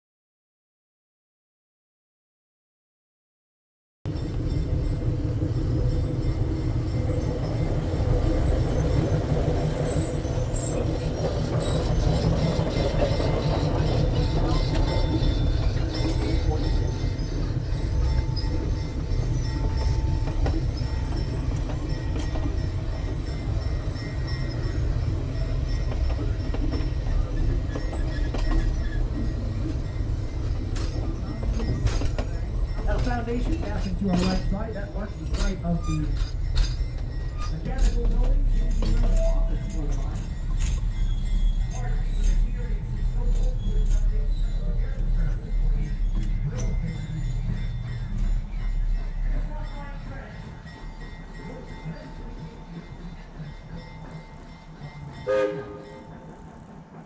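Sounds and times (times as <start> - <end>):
locomotive engine and wheel rumble: 4.1 - 57.0.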